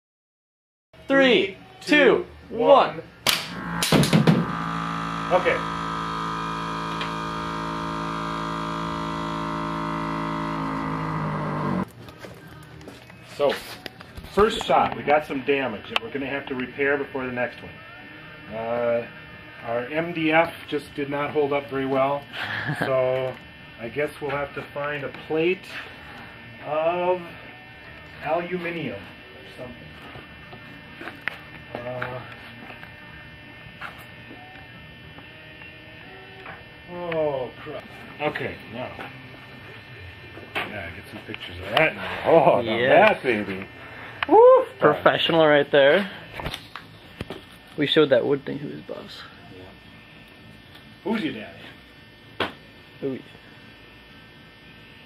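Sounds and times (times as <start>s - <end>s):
electrical hum: 1.0s - 55.0s.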